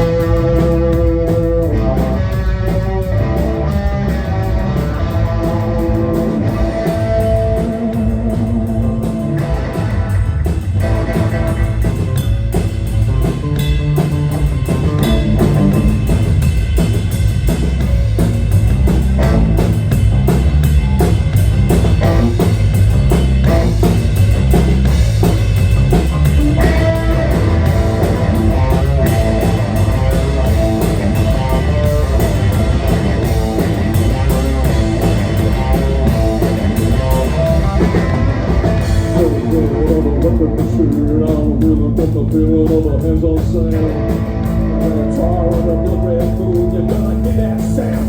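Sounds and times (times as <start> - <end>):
drum kit: 0.0 - 48.0
electric guitar: 0.0 - 48.0
sustained guitar line: 0.0 - 48.0.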